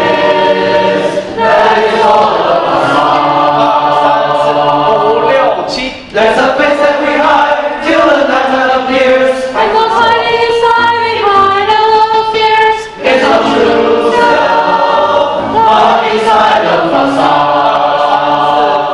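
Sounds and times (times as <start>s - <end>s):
mixed choir singing a cappella: 0.0s - 18.9s.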